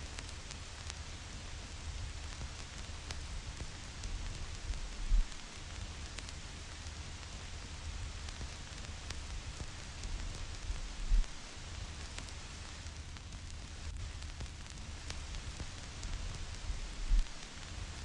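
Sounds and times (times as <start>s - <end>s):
vinyl record crackle: 0.0s - 18.0s.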